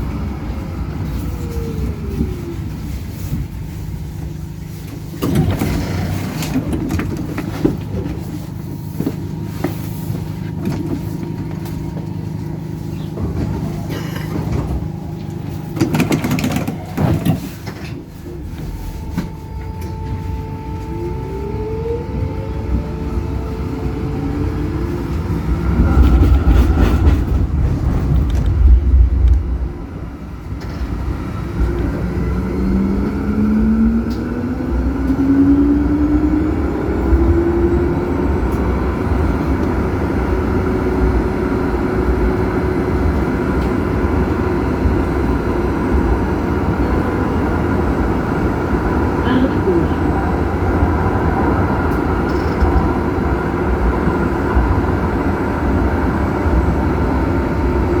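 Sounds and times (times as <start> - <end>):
heavy low rumble: 0.0 - 58.0
tram motor whine: 0.0 - 58.0
tram running: 0.0 - 58.0.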